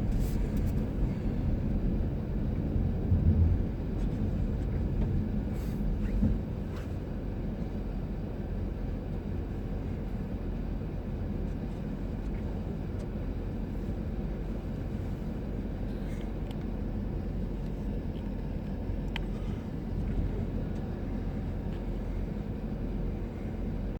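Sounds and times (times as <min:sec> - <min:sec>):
blizzard wind on microphone: 0:00.0 - 0:23.9.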